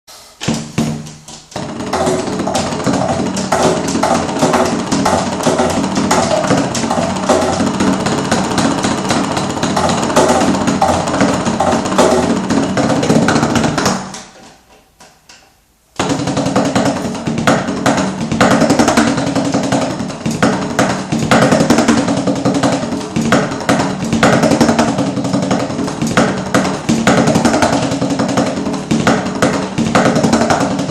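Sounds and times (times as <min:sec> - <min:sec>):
music: 0:00.1 - 0:14.3, 0:16.0 - 0:30.9
drum kit playing groove: 0:00.1 - 0:14.4, 0:16.0 - 0:30.9.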